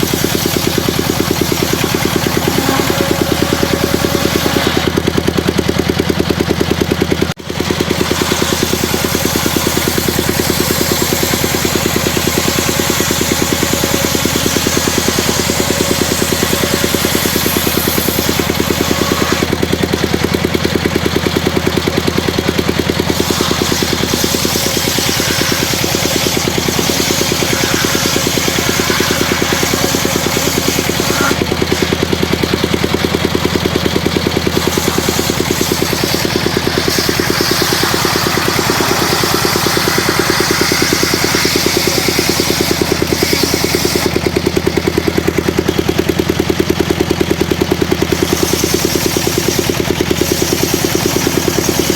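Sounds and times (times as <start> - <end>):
circular saw whirring: 0.0 - 51.9
engine running steadily: 0.0 - 51.9.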